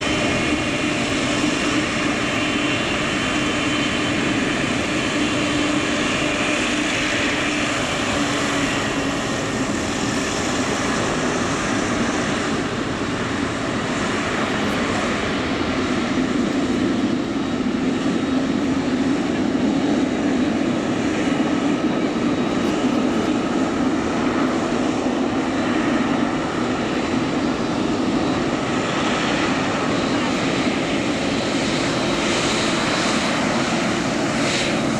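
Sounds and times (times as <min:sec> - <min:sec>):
jet engine roar: 0:00.0 - 0:34.9.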